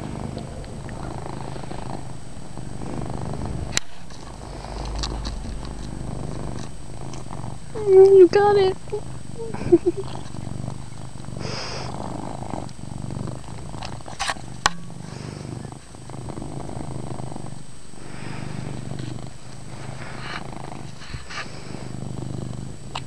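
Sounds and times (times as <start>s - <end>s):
cat purring loudly: 0.0s - 23.0s.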